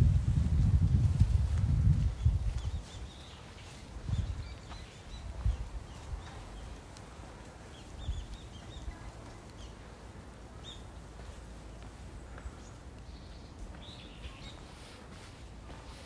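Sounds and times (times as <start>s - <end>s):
small birds chirping: 1.8s - 16.0s.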